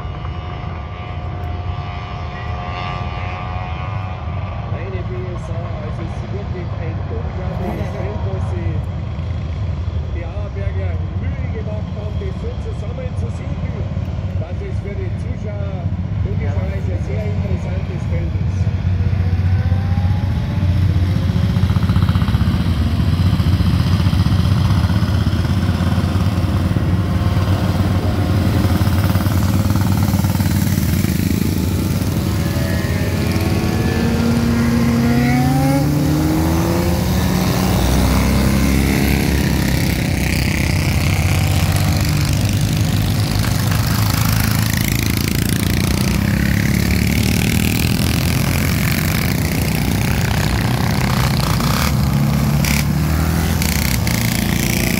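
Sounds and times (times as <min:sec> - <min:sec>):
motorcycles passing: 0:00.0 - 0:54.9.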